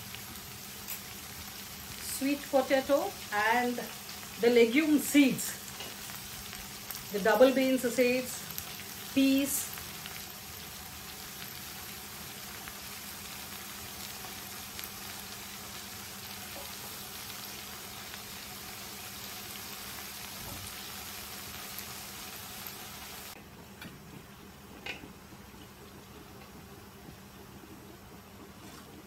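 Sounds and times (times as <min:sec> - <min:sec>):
vegetables sizzling in oil: 0:00.0 - 0:23.4.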